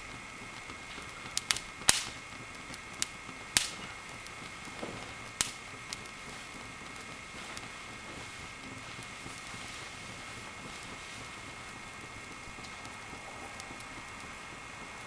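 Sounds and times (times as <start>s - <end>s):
fire crackling and popping: 0.0s - 15.0s
soft steady fire hiss: 0.0s - 15.0s.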